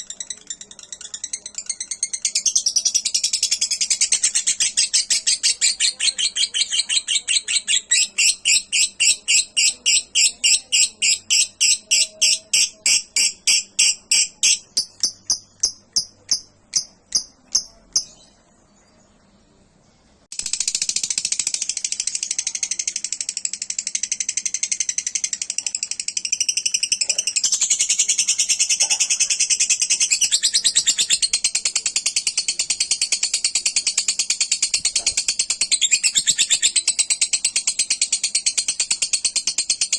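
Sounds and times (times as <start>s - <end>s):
bird trilling high chirps: 0.0s - 18.4s, 24.7s - 33.8s, 34.5s - 39.8s.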